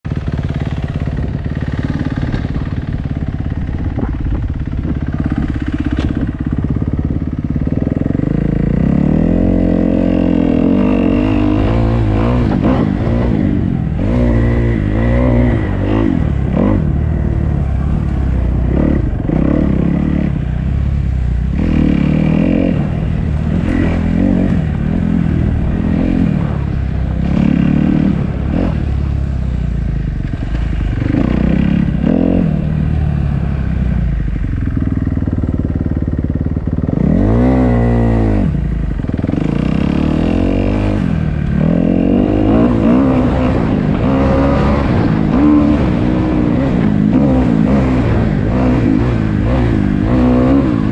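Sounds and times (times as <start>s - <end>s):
dirt bike engine revving: 0.1s - 50.9s.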